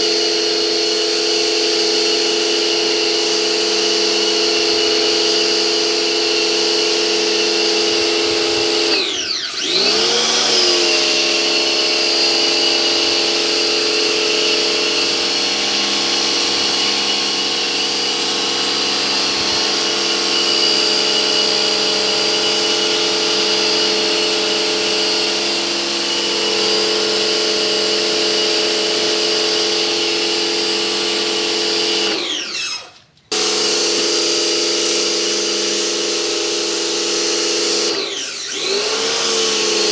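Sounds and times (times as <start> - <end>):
pressure washer motor whine: 0.0 - 39.9.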